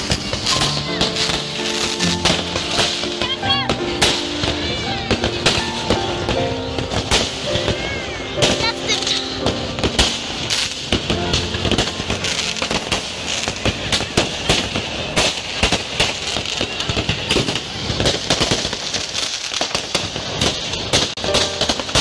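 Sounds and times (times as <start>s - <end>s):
fireworks and firecrackers banging: 0.0s - 22.0s.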